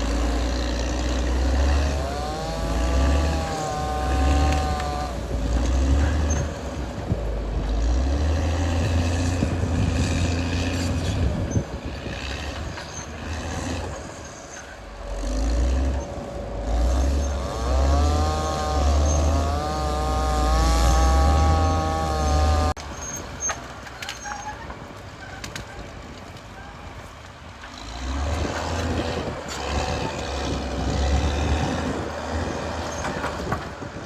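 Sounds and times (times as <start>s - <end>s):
bulldozer diesel engine working: 0.0s - 34.0s.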